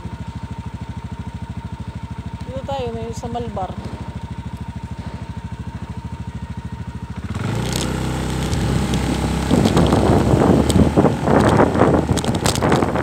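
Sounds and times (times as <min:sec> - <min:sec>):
small motorcycle engine: 0:00.0 - 0:13.0.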